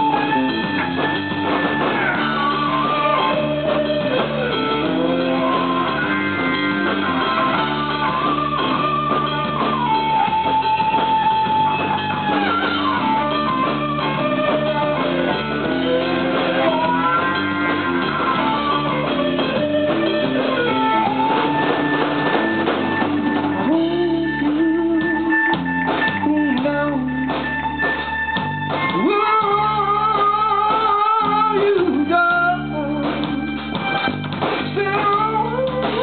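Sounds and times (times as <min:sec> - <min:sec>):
drum kit: 0:00.0 - 0:36.0
fiddle playing sliding notes: 0:00.0 - 0:36.0
guitar: 0:00.0 - 0:36.0.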